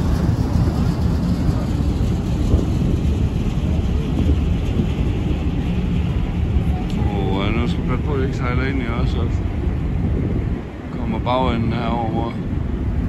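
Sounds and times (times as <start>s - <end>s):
ship engines rumbling: 0.0s - 13.0s
water noise: 0.0s - 13.0s
wind: 0.0s - 13.0s.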